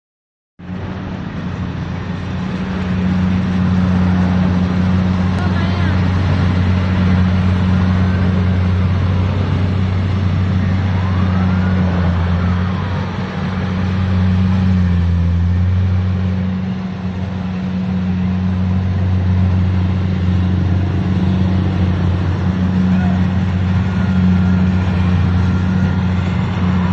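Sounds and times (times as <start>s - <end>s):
harvesting machine engine droning: 0.6s - 26.9s.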